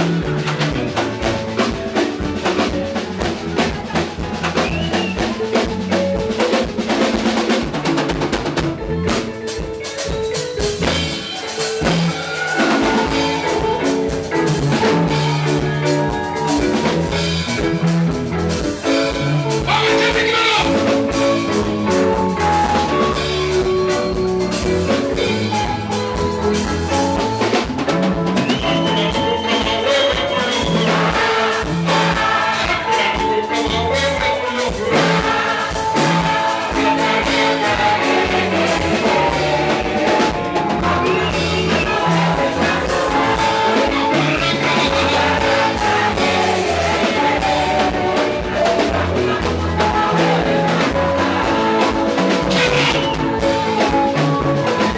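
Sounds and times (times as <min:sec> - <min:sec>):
band playing music: 0:00.0 - 0:54.9
drum kit beat: 0:00.0 - 0:54.9.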